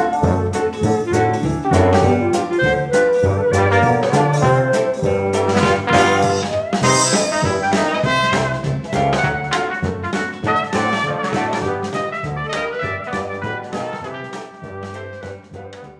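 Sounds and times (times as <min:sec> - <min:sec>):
jazz tune with brass and drums: 0:00.0 - 0:15.9.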